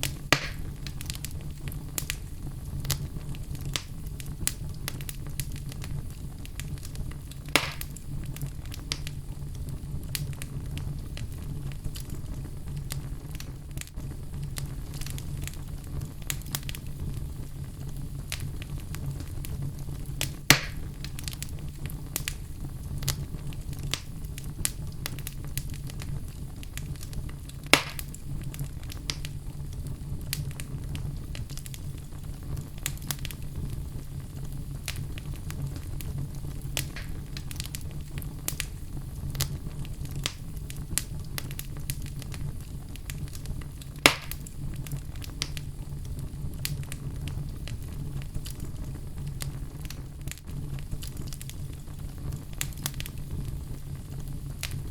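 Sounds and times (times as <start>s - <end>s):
fire crackling and popping: 0.0s - 54.9s
fire rumbling in fireplace: 0.0s - 54.9s.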